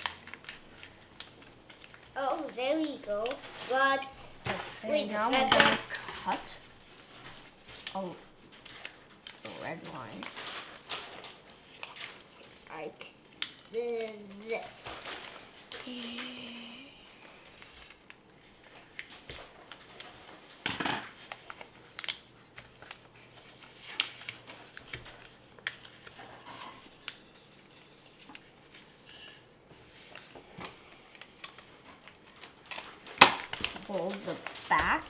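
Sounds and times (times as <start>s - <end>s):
paper being folded: 0.0s - 29.0s, 29.7s - 35.0s.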